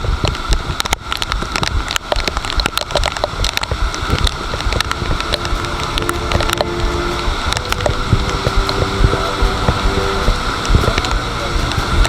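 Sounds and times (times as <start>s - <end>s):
raindrops clicking on camera: 0.0s - 12.0s
steady low rumble: 0.0s - 12.0s.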